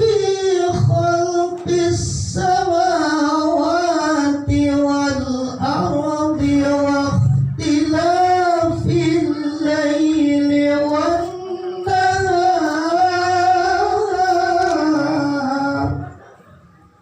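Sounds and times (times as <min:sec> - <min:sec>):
person chanting recitation: 0:00.0 - 0:16.3.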